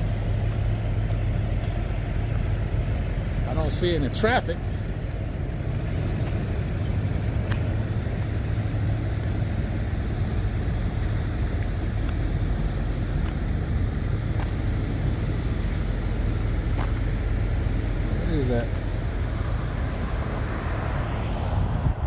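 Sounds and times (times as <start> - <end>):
vehicle engines idling: 0.0 - 22.0.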